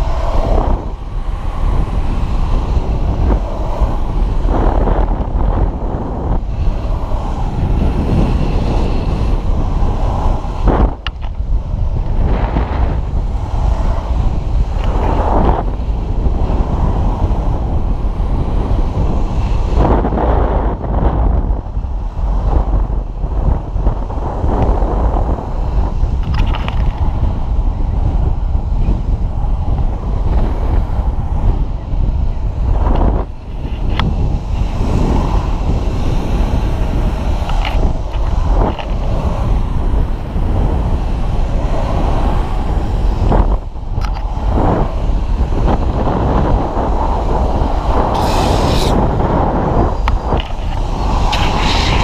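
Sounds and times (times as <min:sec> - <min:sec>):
longboard wheels rolling on asphalt: 0:00.0 - 0:52.0
wind buffeting microphone: 0:00.0 - 0:52.0.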